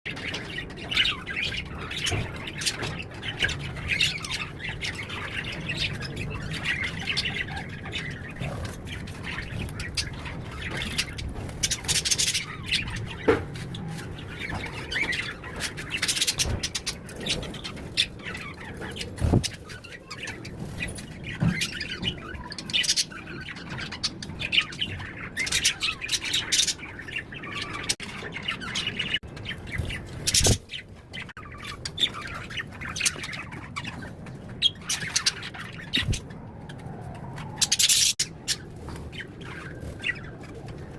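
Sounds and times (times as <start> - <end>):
birds chirping and squawking: 0.1 - 40.9.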